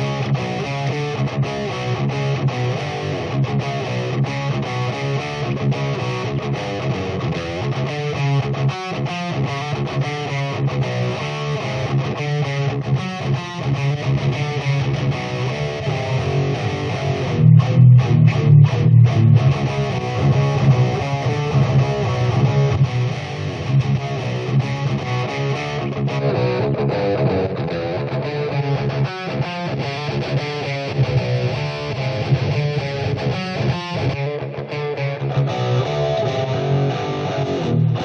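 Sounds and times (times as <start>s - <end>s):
clipped electric guitar chords: 0.0s - 38.0s
electric guitar playing: 0.0s - 38.0s.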